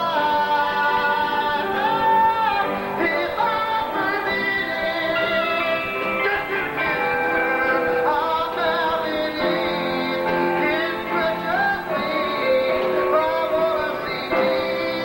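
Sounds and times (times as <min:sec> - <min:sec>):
gospel singers in harmony: 0:00.0 - 0:15.0.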